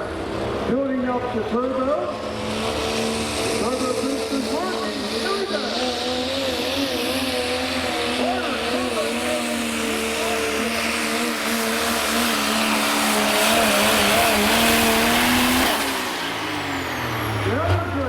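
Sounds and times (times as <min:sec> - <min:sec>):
diesel truck engine at full throttle: 0:00.0 - 0:18.0
rushing of turbo and exhaust: 0:00.0 - 0:18.0.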